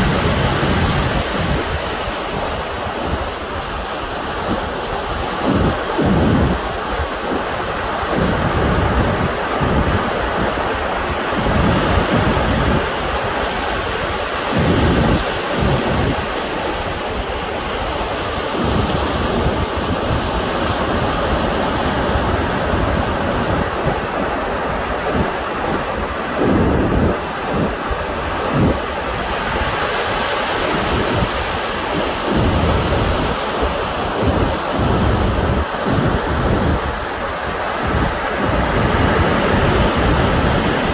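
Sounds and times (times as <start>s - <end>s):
ocean surf rushing: 0.0s - 40.9s
wind buffeting microphone: 0.0s - 40.9s.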